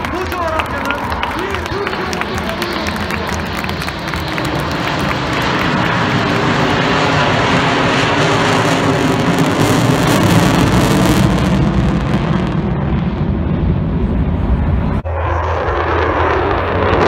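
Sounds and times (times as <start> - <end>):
fighter jet passing: 0.0 - 17.0.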